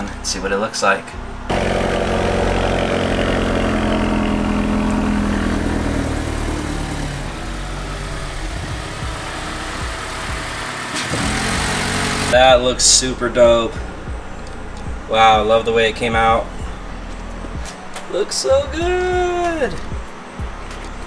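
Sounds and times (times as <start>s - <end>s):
car engine running: 1.2s - 21.0s.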